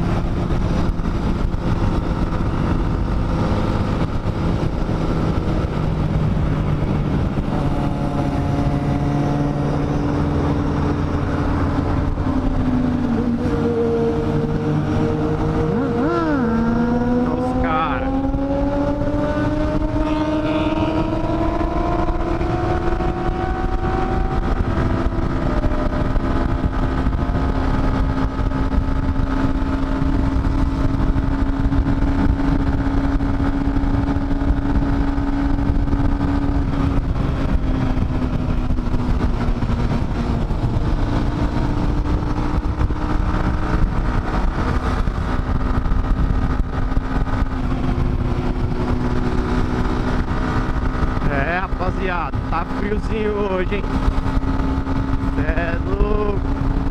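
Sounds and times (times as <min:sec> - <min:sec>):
motorcycle engine cruising: 0:00.0 - 0:56.9
wind rush on microphone: 0:00.0 - 0:56.9.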